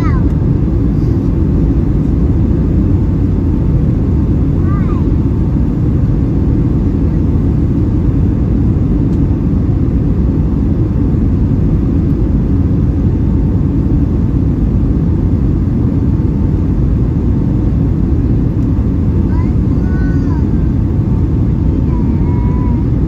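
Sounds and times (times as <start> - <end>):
airplane cabin roar: 0.0 - 23.0.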